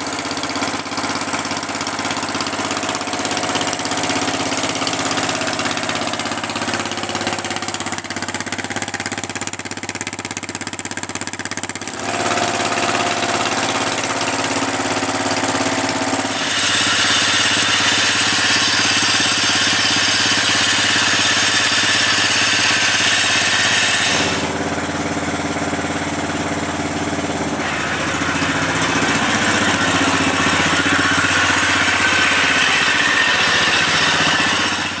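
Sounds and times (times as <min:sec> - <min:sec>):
lawn mower engine revving: 0:00.0 - 0:35.0.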